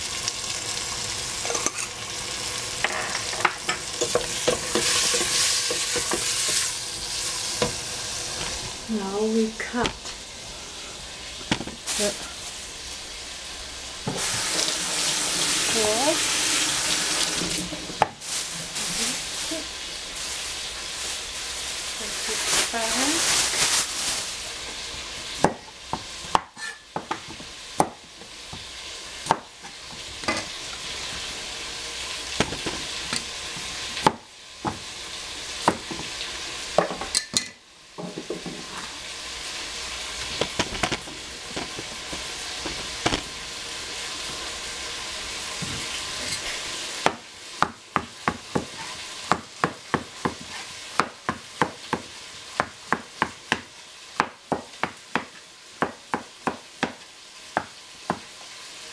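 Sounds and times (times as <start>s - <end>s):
food sizzling in a pan: 0.0s - 58.9s.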